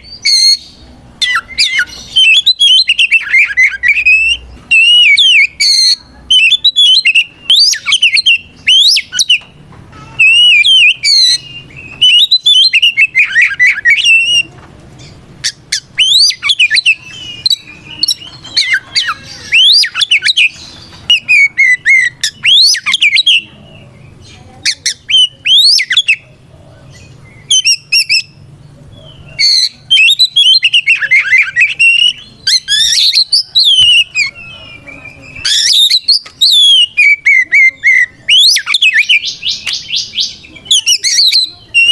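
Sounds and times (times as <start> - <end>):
magpie-robin singing: 0.0 - 41.9.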